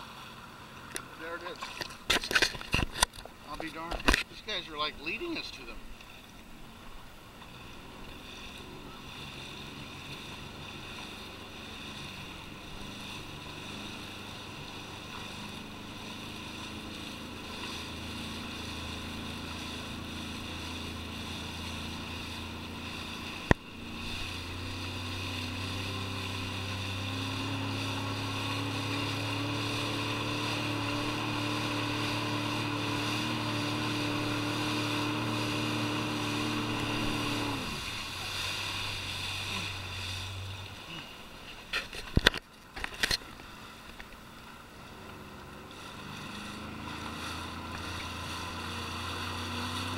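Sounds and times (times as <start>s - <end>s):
watercraft engine running: 0.0s - 49.9s.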